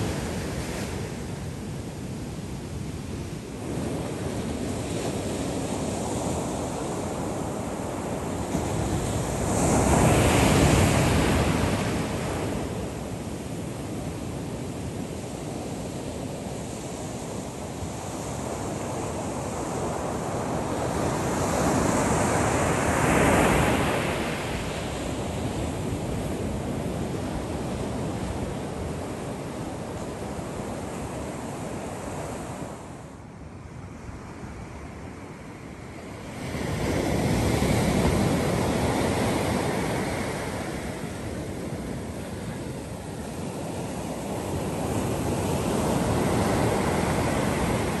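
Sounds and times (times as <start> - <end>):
storm surf breaking on beach: 0.0 - 33.2, 35.3 - 48.0.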